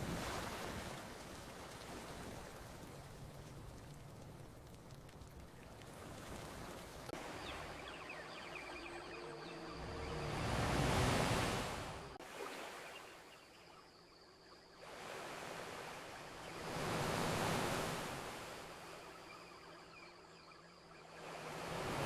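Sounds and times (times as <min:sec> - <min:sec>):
ocean waves washing onto beach: 0:00.0 - 0:13.3, 0:14.8 - 0:20.2, 0:20.8 - 0:22.0.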